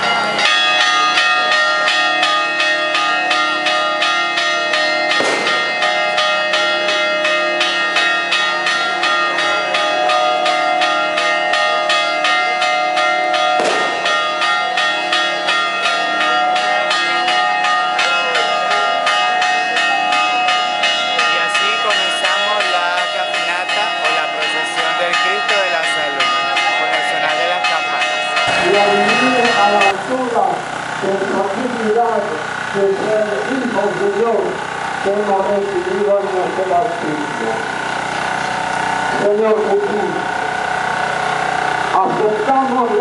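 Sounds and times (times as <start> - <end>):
heavy bell strokes: 0.0 - 42.5
church bells pealing: 0.0 - 43.0.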